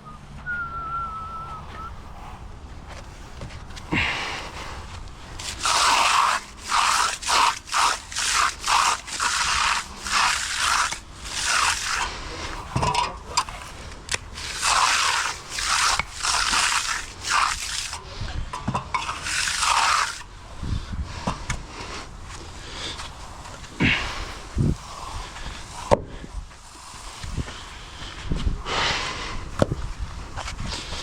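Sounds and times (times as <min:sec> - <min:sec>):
tool scraping fresh concrete: 0:01.1 - 0:31.0.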